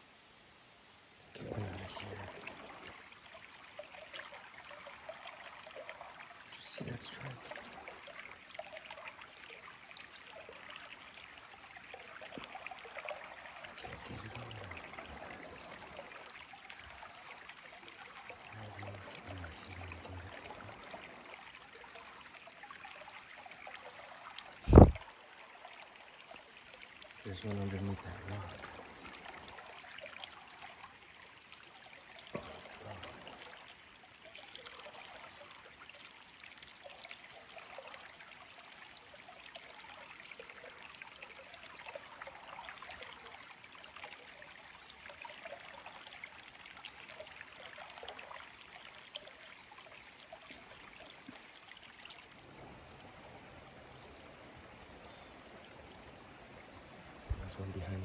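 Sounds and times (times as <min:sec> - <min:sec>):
creek water babbling over rocks: 0:01.0 - 0:58.0.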